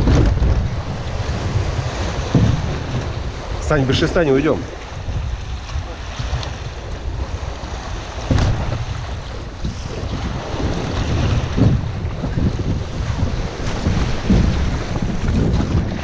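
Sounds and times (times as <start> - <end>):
waves breaking over rocks: 0.0 - 16.0
wind rumbling on microphone: 0.0 - 16.0.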